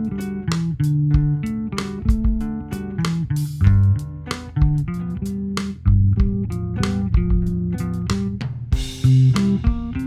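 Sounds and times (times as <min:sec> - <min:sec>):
guitar and bass music: 0:00.0 - 0:10.0
steady drum beat: 0:00.0 - 0:10.0.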